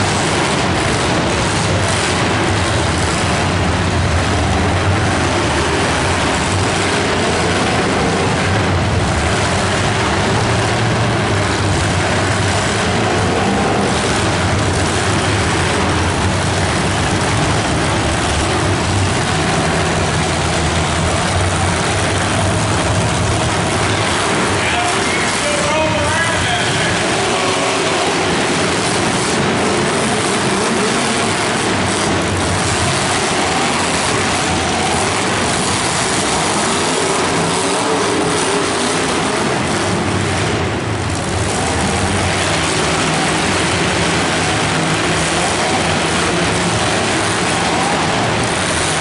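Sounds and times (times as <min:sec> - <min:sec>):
many car engines revving: 0:00.0 - 0:49.0.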